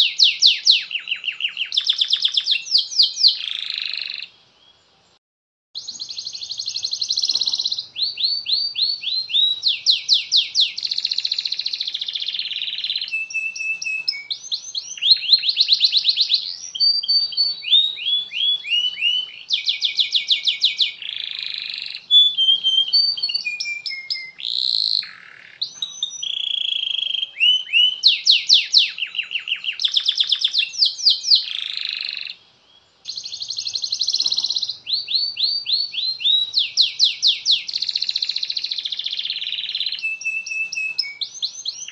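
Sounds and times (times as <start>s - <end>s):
canary singing trills: 0.0s - 4.8s, 5.8s - 41.9s.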